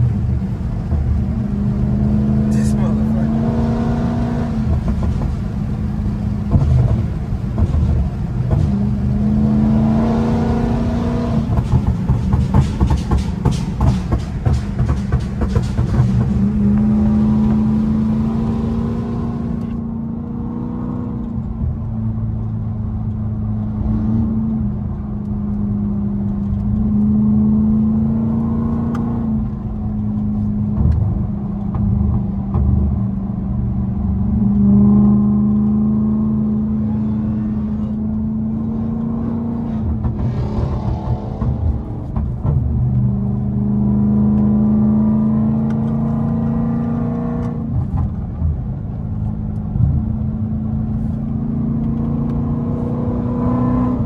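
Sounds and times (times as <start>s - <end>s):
car engine at highway speed: 0.0s - 54.0s.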